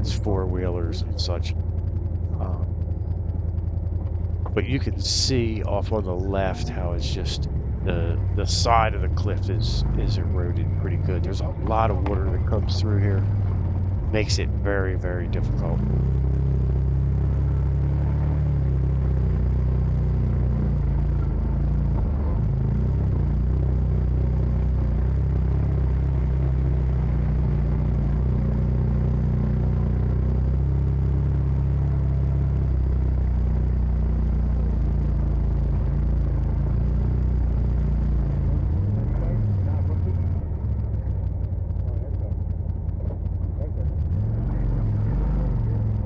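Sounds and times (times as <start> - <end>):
utility vehicle engine running: 0.0 - 46.0.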